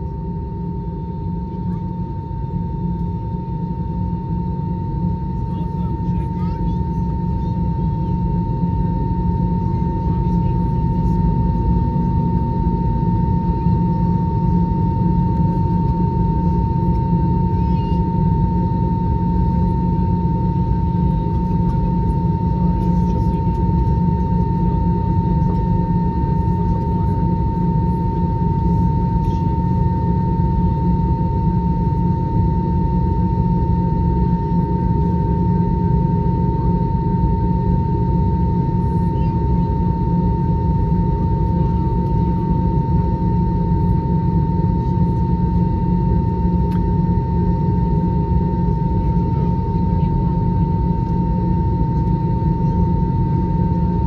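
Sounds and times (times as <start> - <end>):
aircraft cabin engine drone: 0.0 - 54.0.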